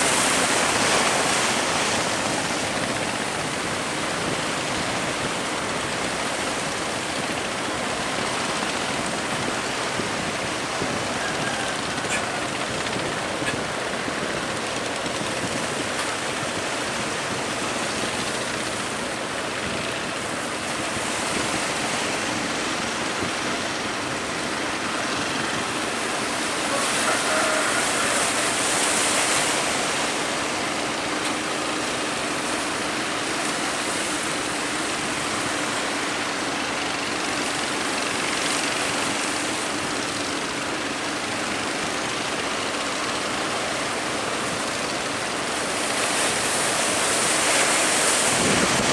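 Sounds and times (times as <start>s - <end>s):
ship engine humming: 0.0s - 48.9s
water splashing against ship hull: 0.0s - 48.9s.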